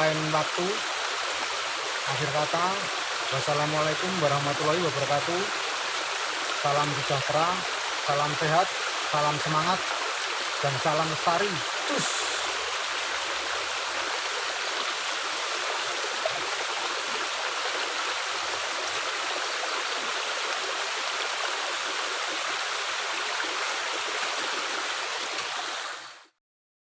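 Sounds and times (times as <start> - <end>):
water rushing through culvert: 0.0 - 26.3.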